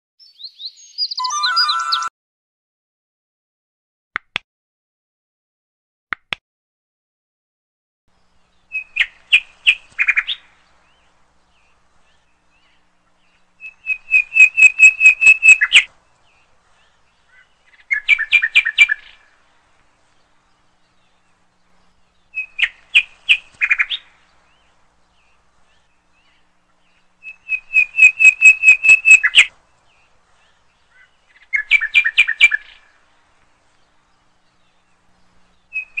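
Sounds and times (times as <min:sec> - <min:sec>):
songbird chirping: 0:00.2 - 0:02.1, 0:08.1 - 0:36.0.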